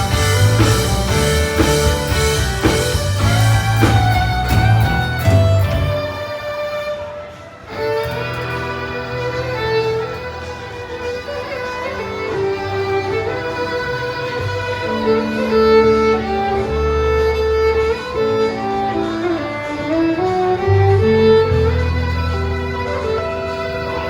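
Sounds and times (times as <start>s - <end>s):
bass: 0.0s - 6.4s, 8.0s - 24.0s
acoustic guitar: 0.0s - 24.0s
fiddle sliding melody: 0.0s - 24.0s.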